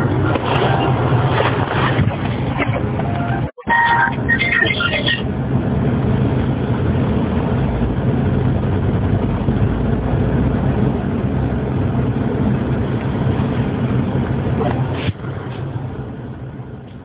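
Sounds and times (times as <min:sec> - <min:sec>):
low rumble over telephone line: 0:00.0 - 0:17.0.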